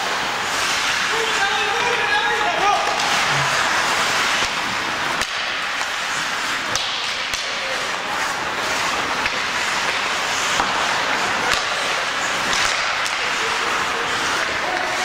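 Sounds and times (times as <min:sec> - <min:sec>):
hockey stick and puck clacks: 0:00.0 - 0:02.0, 0:02.6 - 0:15.0
arena noise: 0:00.0 - 0:15.0
skates hissing: 0:00.0 - 0:15.0.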